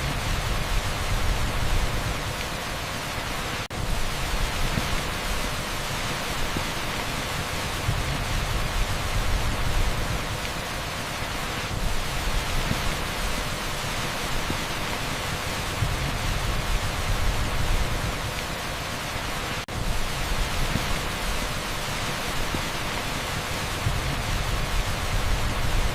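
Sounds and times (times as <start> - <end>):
heavy rain on asphalt: 0.0 - 25.9.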